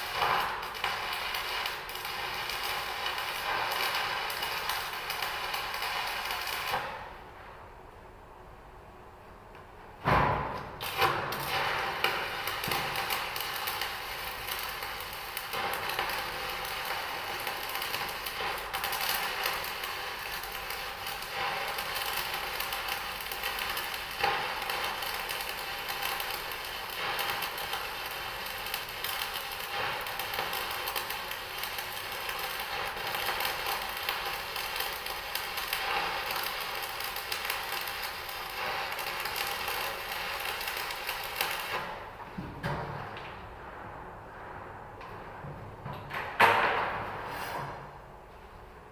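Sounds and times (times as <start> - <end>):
welding pops: 0.0 - 7.1, 10.0 - 43.4
arc welding crackle: 0.0 - 7.5, 10.0 - 43.9.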